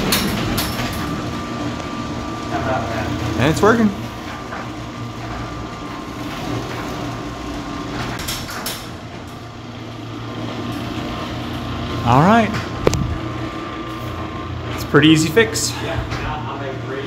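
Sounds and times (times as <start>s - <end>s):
garage door opener motor humming: 0.0s - 17.0s.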